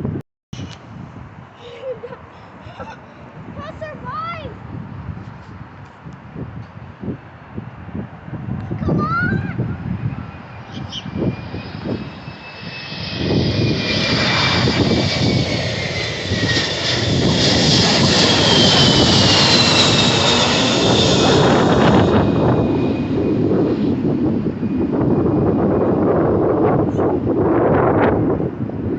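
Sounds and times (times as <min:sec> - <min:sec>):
high jet engine whine: 0:00.0 - 0:28.9
jet airliner passing overhead: 0:00.0 - 0:28.9.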